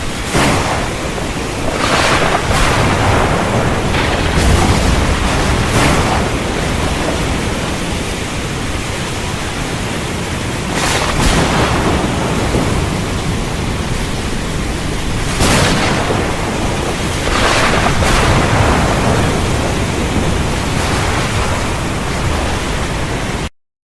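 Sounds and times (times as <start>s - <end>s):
crackling surges: 0.0s - 23.5s
heavy rain pouring: 0.0s - 23.5s
low thunder rumble: 0.0s - 23.5s.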